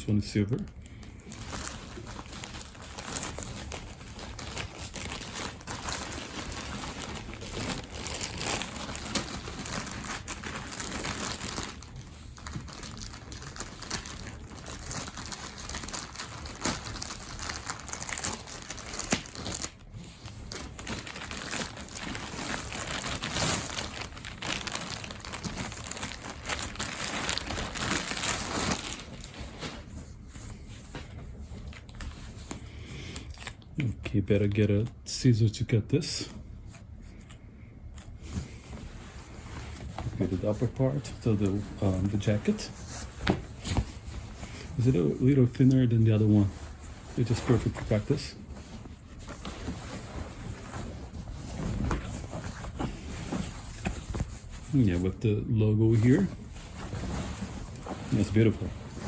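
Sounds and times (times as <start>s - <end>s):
packaging crinkling and rustling: 0.4s - 35.0s, 36.7s - 55.2s, 55.8s - 59.0s.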